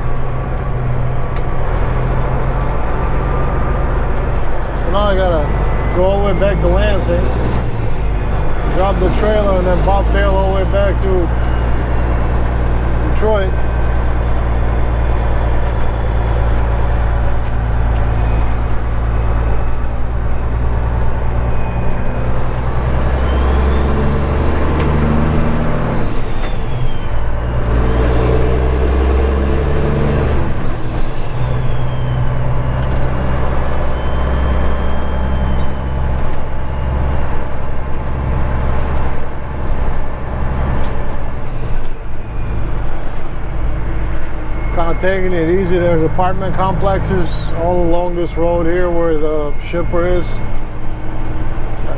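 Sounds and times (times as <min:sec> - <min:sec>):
diesel truck engine pulling away: 0:00.0 - 0:51.9
high whistle: 0:04.9 - 0:37.8, 0:41.5 - 0:51.9.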